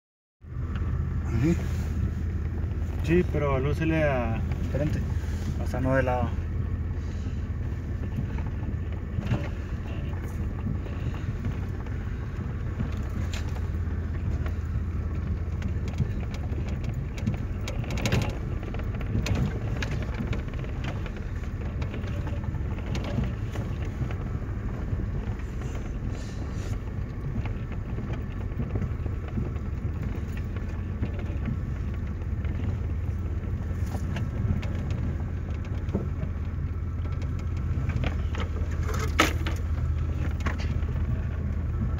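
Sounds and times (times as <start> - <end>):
vehicle engine drone: 0.4 - 41.9
knocks and rattles: 2.2 - 41.9.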